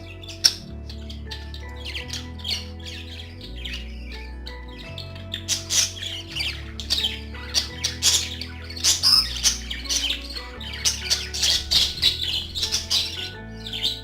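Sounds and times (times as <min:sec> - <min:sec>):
budgerigars chattering and squawking: 0:00.0 - 0:14.0.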